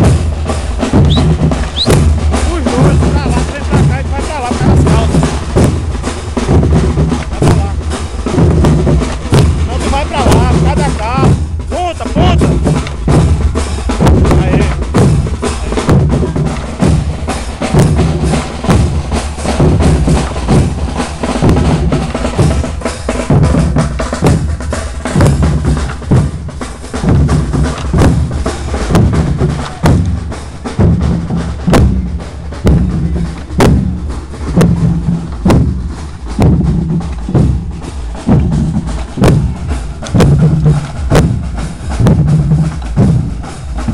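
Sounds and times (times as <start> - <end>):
bass drum beat: 0.0 - 43.9
marching band playing: 0.0 - 43.9.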